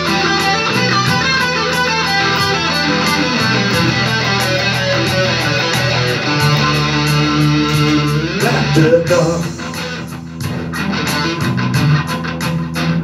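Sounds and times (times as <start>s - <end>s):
backing track: 0.0s - 13.0s
electric guitar solo: 0.0s - 13.0s.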